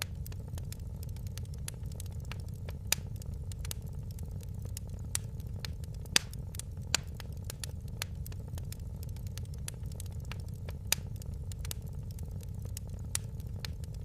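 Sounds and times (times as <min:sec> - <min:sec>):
sharp pops and snaps: 0:00.0 - 0:14.0
steady low rumble: 0:00.0 - 0:14.0
wood fire crackling: 0:00.0 - 0:14.0.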